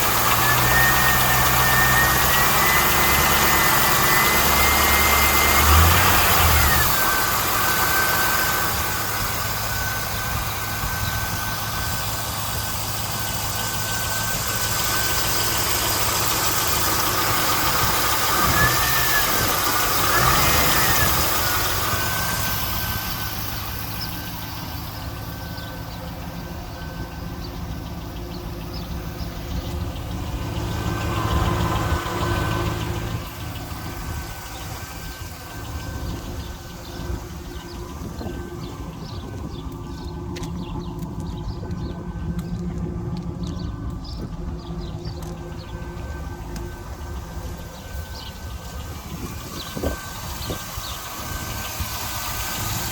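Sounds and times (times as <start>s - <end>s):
car engine idling: 0.0s - 52.9s
engine revving: 0.0s - 52.9s
valvetrain ticking: 0.0s - 52.9s.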